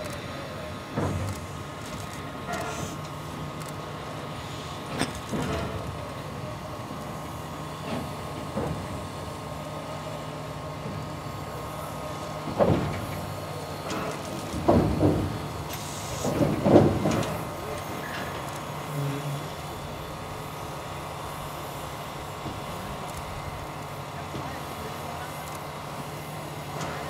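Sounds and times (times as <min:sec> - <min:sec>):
train mechanical hum: 0:00.0 - 0:27.0.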